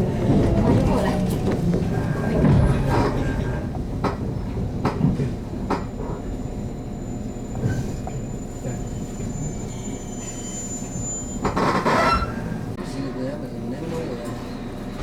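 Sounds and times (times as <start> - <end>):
train running noise from inside: 0.0 - 15.0.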